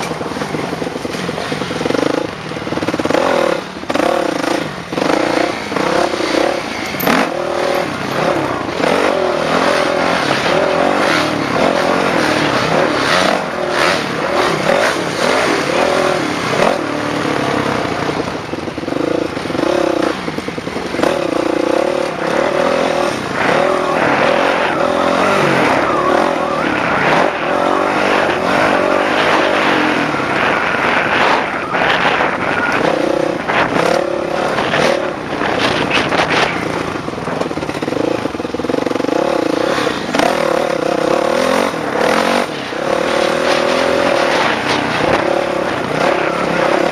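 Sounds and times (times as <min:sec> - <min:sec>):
dirt bike engine revving: 0:00.0 - 0:46.9
steady rushing noise: 0:00.0 - 0:46.9.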